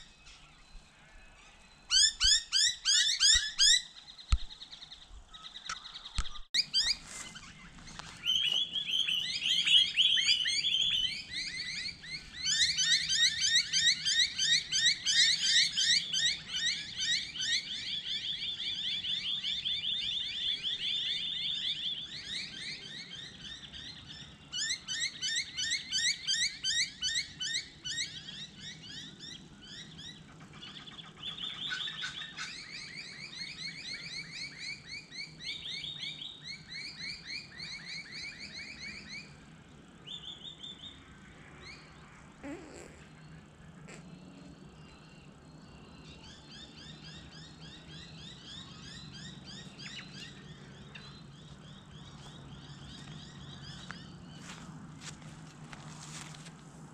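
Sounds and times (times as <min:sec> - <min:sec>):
birds trilling: 0:00.0 - 0:55.4.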